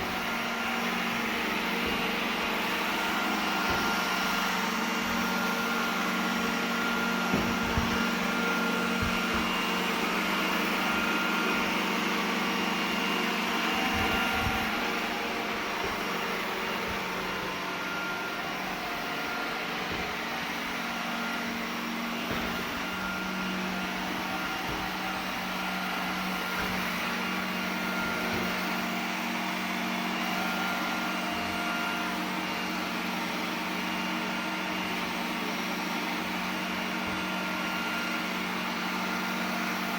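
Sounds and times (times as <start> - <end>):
robot vacuum humming: 0.0 - 39.9.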